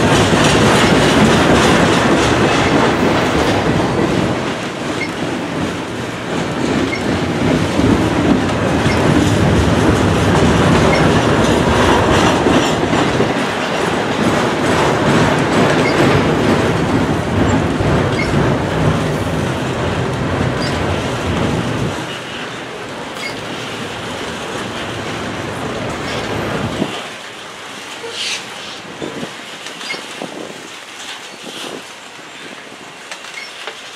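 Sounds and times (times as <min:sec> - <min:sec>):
train wheels running on rails: 0:00.0 - 0:33.9.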